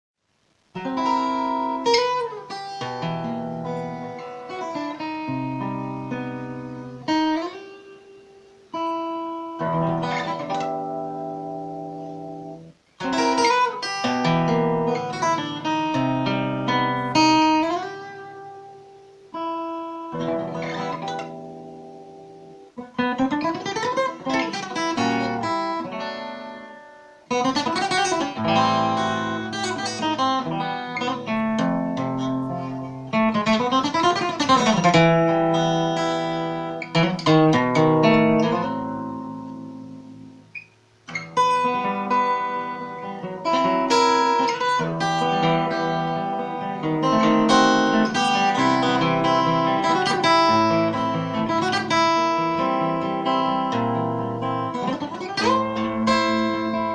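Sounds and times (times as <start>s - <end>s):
acoustic guitar playing: 0.4s - 56.9s.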